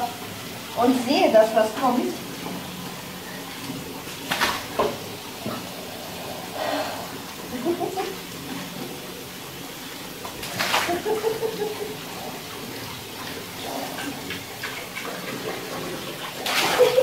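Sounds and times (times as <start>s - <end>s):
water gushing into bathtub: 0.0s - 17.0s
water splashing and trickling: 0.0s - 17.0s.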